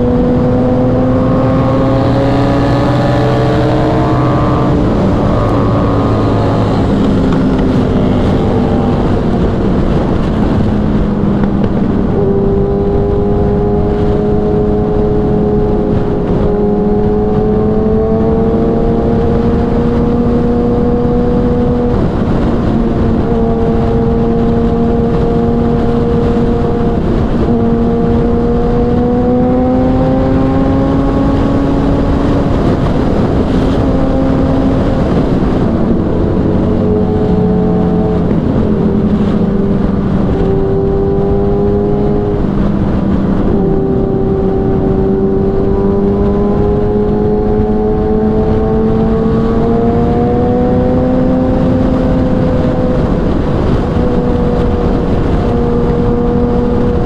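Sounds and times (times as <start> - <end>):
motorcycle engine at speed: 0.0 - 57.0
wind rushing: 0.0 - 57.0.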